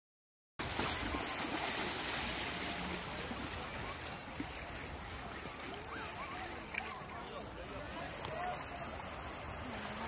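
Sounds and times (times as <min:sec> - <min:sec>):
small waves washing on beach: 0:00.6 - 0:10.0.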